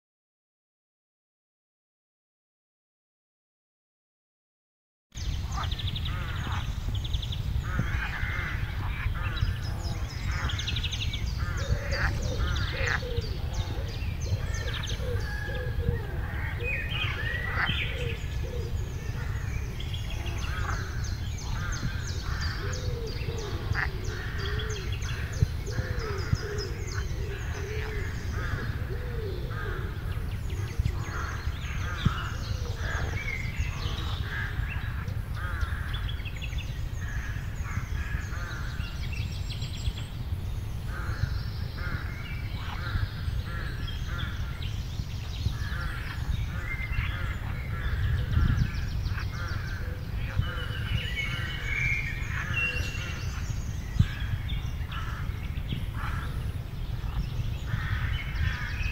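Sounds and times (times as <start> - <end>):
birds chirping and calling: 5.2 - 58.9.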